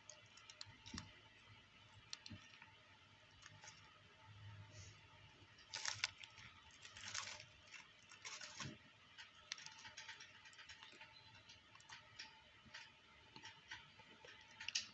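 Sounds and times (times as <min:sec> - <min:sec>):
tortoise chewing vegetables: 0:00.0 - 0:14.9.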